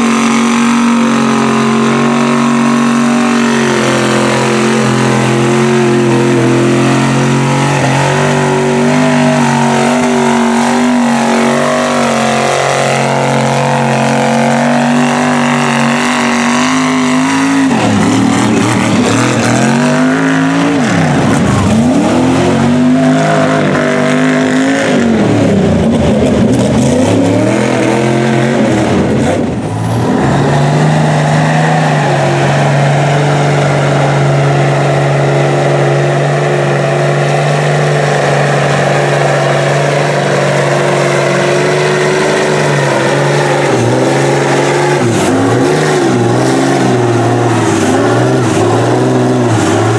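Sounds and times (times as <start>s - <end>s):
truck engines revving: 0.0s - 49.9s
trucks churning through muddy water: 0.0s - 49.9s.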